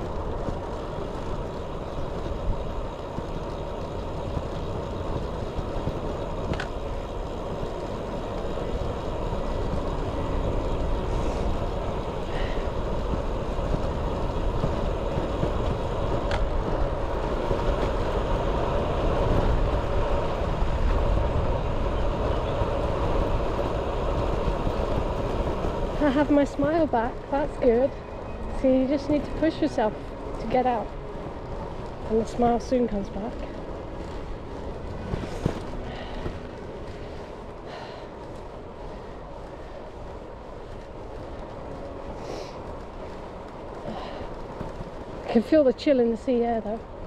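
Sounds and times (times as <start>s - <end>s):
bike tyres rumbling: 0.0s - 47.0s
wind rush on microphone: 0.0s - 47.0s.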